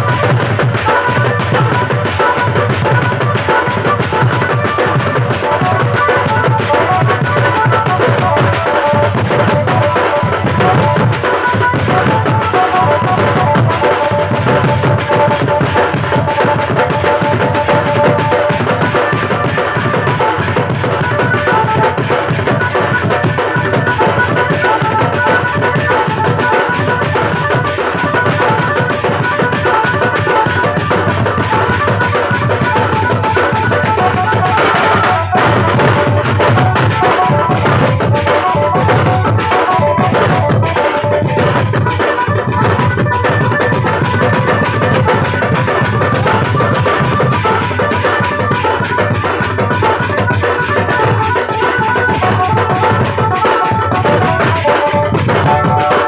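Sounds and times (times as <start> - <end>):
large drums beating: 0.0 - 56.0.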